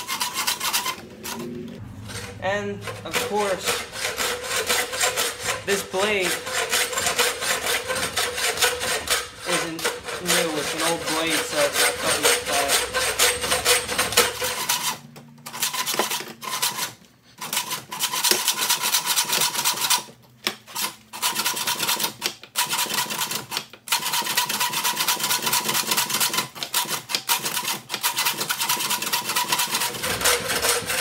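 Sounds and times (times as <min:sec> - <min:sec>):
hacksaw rasping through steel: 0:00.0 - 0:31.0.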